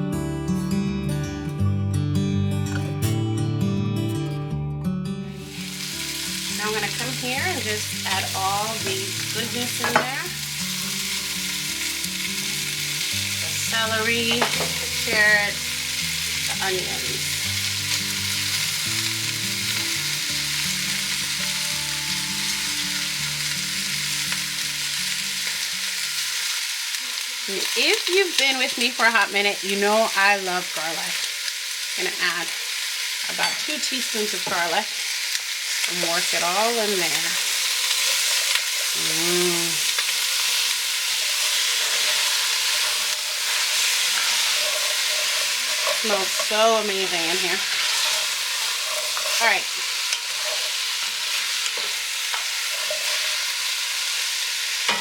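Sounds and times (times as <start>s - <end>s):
food frying hiss: 5.3s - 55.0s
vegetables sizzling in oil: 5.3s - 55.0s.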